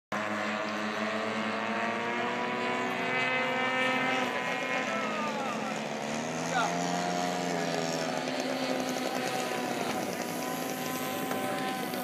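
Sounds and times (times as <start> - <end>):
model airplane propellers droning: 0.1 - 12.0.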